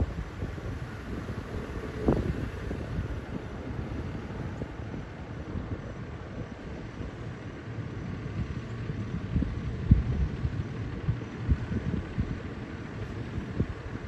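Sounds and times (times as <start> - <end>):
diesel engine low rumble: 0.0 - 14.0.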